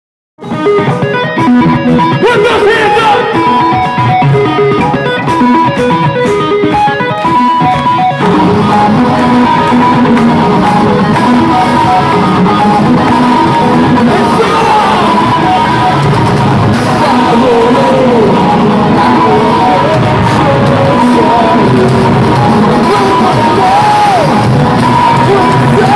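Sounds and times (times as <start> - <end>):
guitar playing single notes: 0.4 - 25.9
metal band playing loud: 0.4 - 25.9.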